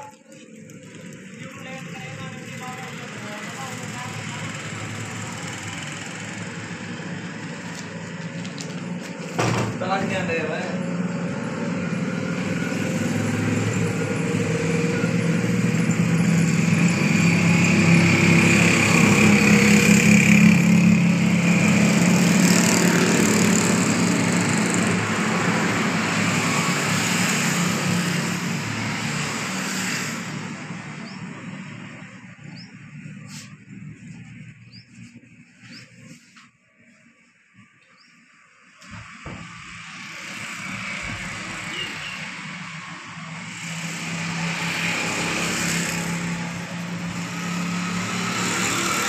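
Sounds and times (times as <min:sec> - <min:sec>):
vehicle engine passing by: 0:00.8 - 0:36.4, 0:39.0 - 0:49.0.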